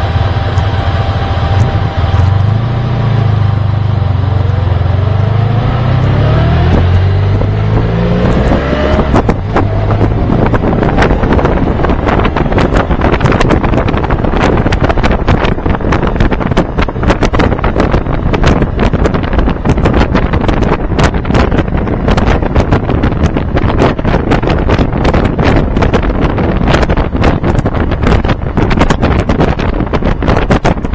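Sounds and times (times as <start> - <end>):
motorcycle engine accelerating: 0.0 - 30.9
wind buffeting microphone: 0.0 - 30.9.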